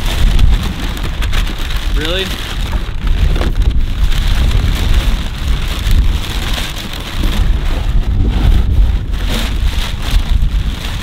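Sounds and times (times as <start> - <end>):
paper rustling in a box: 0.0 - 11.0
wind rumble on microphone: 0.0 - 11.0.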